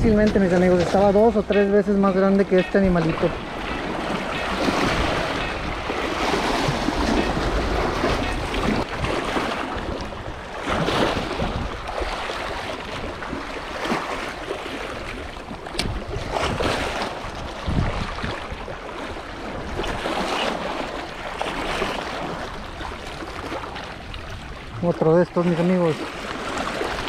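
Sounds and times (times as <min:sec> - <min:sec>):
sea waves splashing against rocks: 0:00.0 - 0:27.0
wind rumbling on microphone: 0:00.0 - 0:27.0.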